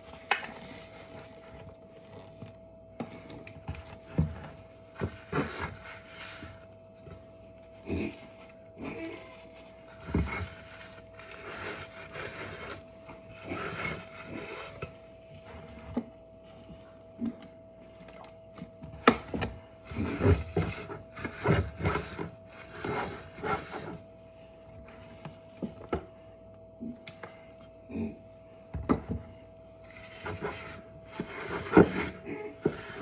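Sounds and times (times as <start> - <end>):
faint steady tone: 0.0 - 33.0.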